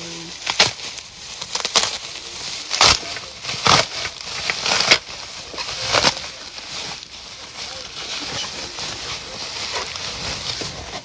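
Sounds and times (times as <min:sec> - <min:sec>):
latex glove rustling: 0:00.0 - 0:11.0.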